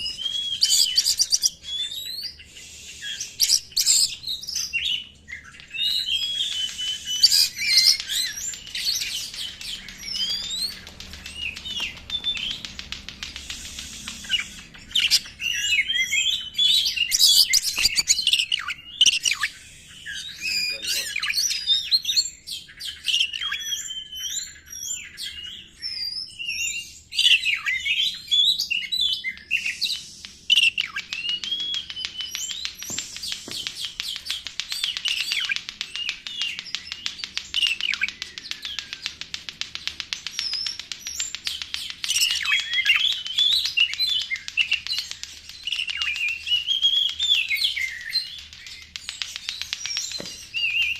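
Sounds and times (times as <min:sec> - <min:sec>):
songbird singing whistles and chirps: 0:00.0 - 0:50.9.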